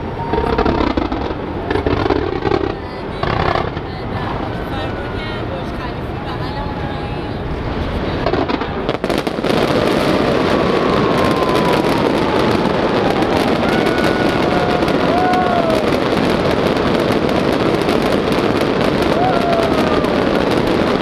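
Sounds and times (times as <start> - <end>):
fireworks whistling: 0.0 - 4.9, 7.5 - 21.0
fireworks crackling: 0.0 - 21.0.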